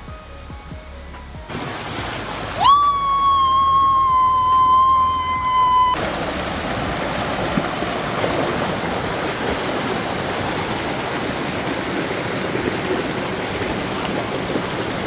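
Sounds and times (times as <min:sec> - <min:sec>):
river water rushing: 0:01.5 - 0:15.0.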